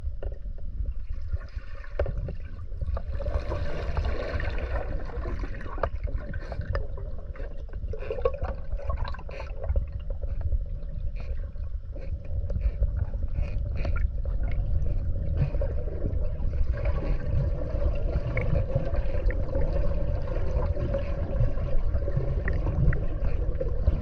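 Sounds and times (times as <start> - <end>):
low rumble of moving water: 0.0 - 24.0.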